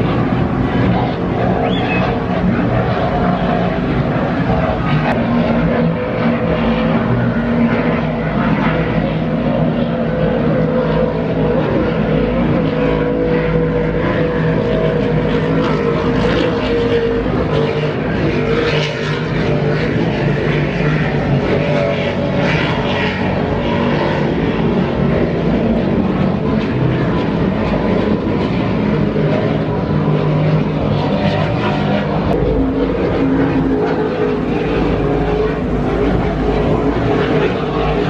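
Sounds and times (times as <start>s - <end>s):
powerboat engines droning: 0.0s - 38.0s.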